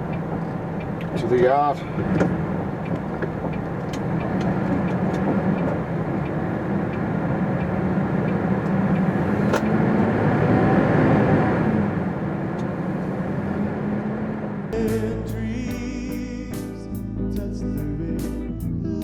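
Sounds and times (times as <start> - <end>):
road noise: 0.0 - 15.6
lorry diesel engine running: 0.0 - 16.3.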